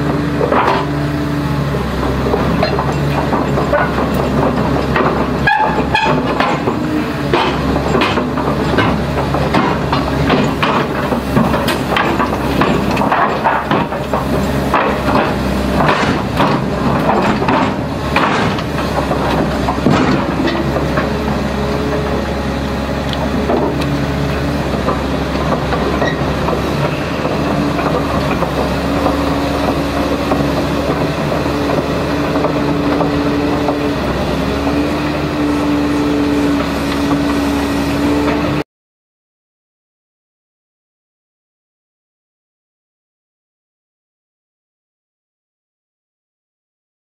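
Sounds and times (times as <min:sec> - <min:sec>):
engine humming: 0:00.0 - 0:38.6
excavator tracks clanking: 0:00.0 - 0:38.6.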